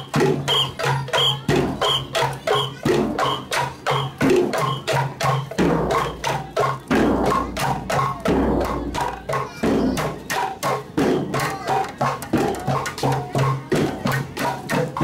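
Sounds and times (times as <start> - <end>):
hand percussion and frame drums: 0.0 - 15.0.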